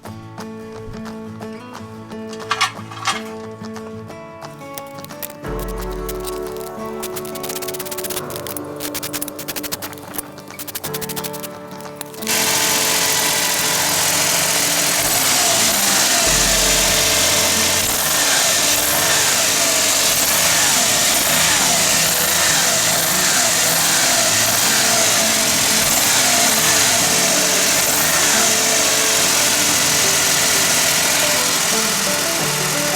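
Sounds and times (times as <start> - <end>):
car engine running: 2.3 - 3.4, 5.5 - 32.9.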